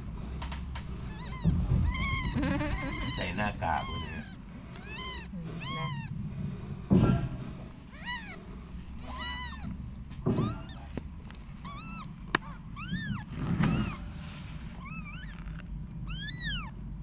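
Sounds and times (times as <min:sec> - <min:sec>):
kittens mewing: 0:00.0 - 0:17.0.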